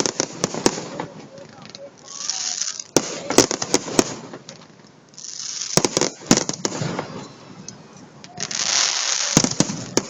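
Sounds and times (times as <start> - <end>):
fireworks bangs: 0.0 - 10.0
hissing crackle: 0.0 - 10.0.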